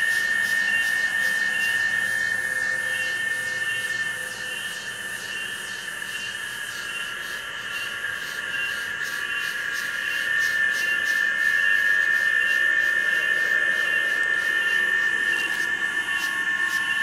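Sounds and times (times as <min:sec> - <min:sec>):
insects droning shrilly: 0:00.0 - 0:17.0.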